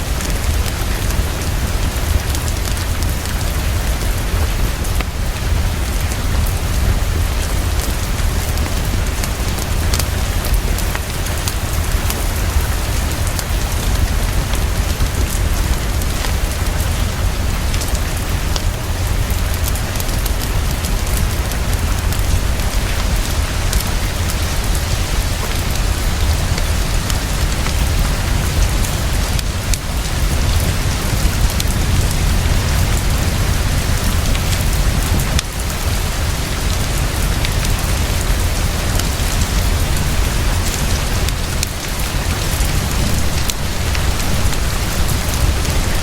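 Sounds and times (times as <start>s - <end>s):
deep continuous rumble: 0.0s - 46.0s
heavy rainfall: 0.0s - 46.0s
wood fire crackling: 0.0s - 46.0s.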